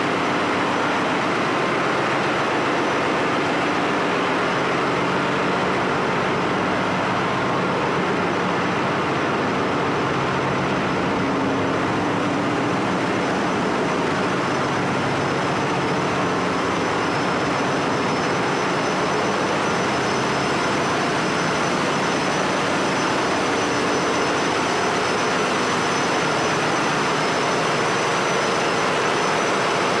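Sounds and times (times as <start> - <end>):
engine-room machinery drone: 0.0 - 30.0
faint high whine: 0.0 - 30.0.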